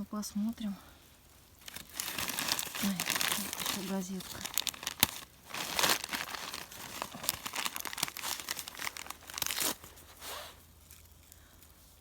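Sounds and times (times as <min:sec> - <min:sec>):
newspaper crumpling and tearing: 0:01.6 - 0:11.3.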